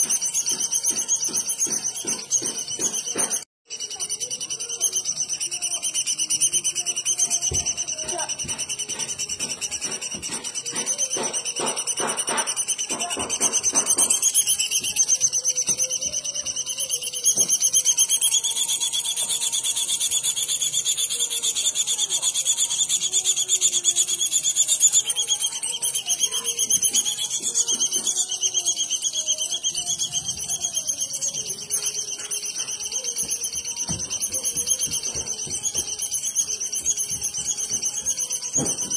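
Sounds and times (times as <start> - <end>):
bird buzzing trill: 4.2 - 38.9.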